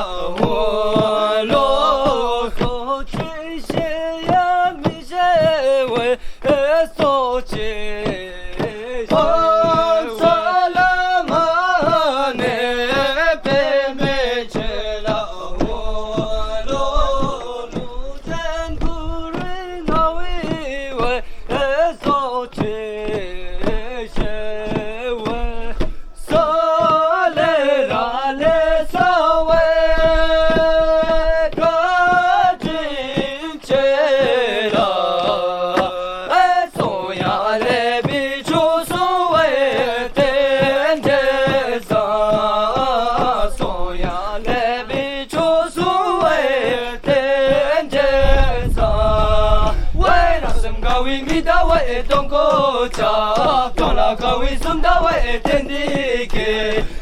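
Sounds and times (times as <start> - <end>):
melodic chanting: 0.0 - 57.0
steady rhythmic beat: 0.0 - 57.0.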